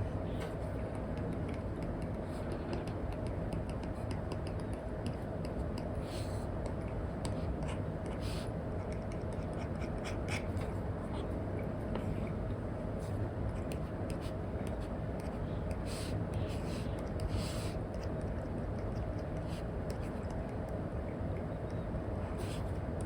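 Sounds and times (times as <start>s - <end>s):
steady background noise: 0.0s - 23.0s
stylus scratching and tapping screen: 0.7s - 5.9s, 6.6s - 12.4s, 13.0s - 22.8s.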